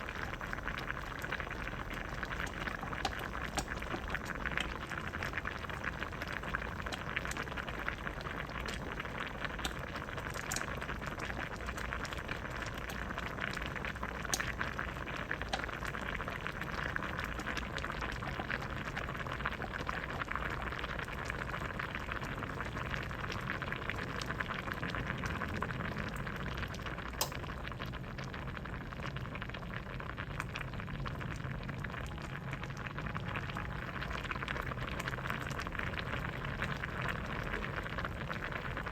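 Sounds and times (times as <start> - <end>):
soup boiling in a pot: 0.0 - 38.9.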